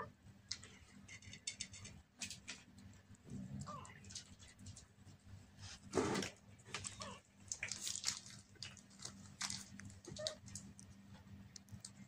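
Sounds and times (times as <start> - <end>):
faint steady hum: 0.0 - 12.0
kitten paws scratching and tapping: 0.4 - 12.0.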